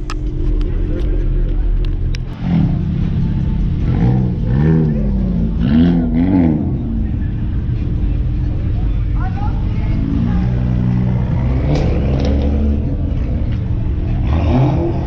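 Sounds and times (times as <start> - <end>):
car engines idling: 0.0 - 15.0
engine revving: 0.0 - 15.0.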